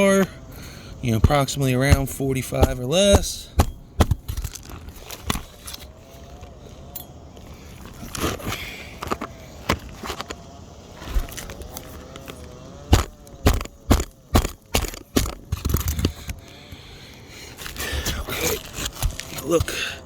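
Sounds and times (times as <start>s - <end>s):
roof shingles knocking and cracking: 0.0s - 6.6s, 7.5s - 16.6s, 17.6s - 20.0s.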